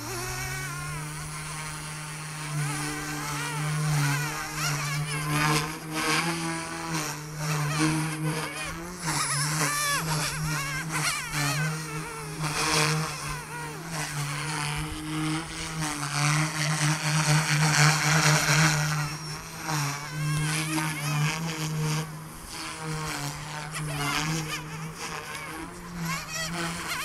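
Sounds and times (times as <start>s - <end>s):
electric motor whine: 0.0s - 27.0s
rc helicopter rotor buzz: 0.0s - 27.0s.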